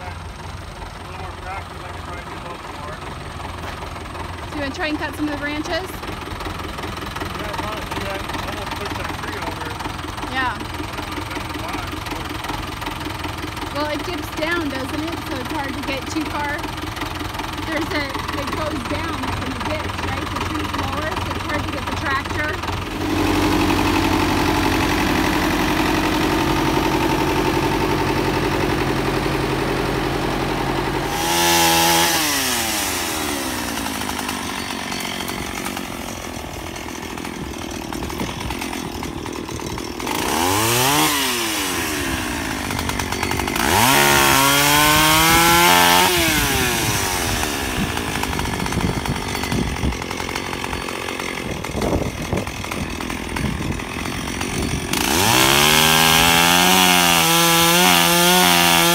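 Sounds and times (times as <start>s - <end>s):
chainsaw idling and revving: 0.0s - 58.9s.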